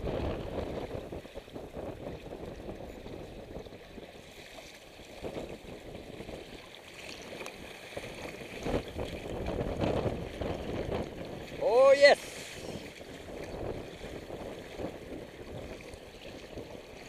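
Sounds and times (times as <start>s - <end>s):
water splashing against hull: 0.0s - 17.0s
wind rumbling on microphone: 0.0s - 17.0s.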